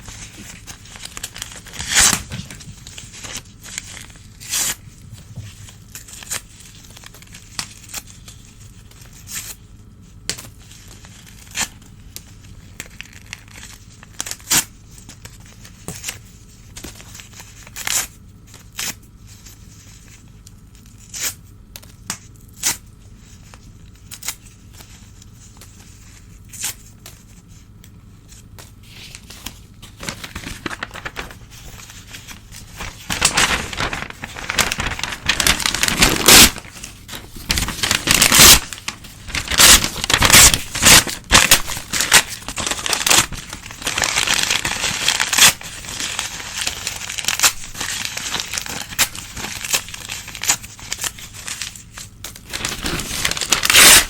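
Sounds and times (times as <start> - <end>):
newspaper tearing and crumpling: 0.0 - 9.6, 10.6 - 21.4, 22.5 - 54.0.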